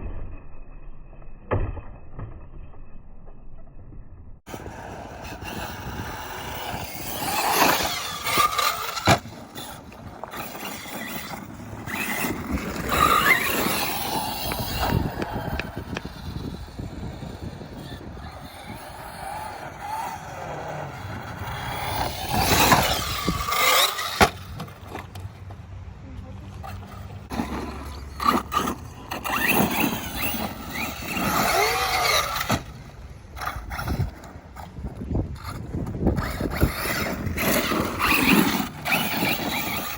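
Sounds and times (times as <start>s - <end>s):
electric motor whine: 4.5s - 25.0s, 26.6s - 34.3s, 35.8s - 39.9s
tyres scrabbling on loose ground: 4.5s - 39.9s.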